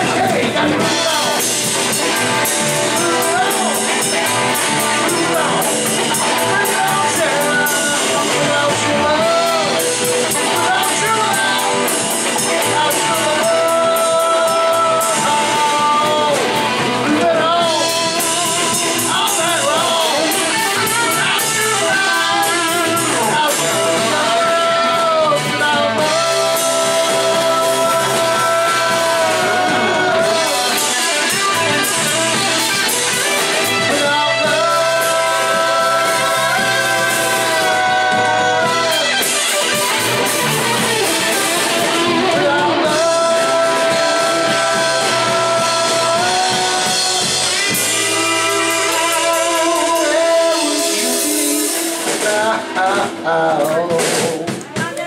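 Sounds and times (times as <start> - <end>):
electric guitar lead bending: 0.0 - 54.8
live rock band playing: 0.0 - 55.0.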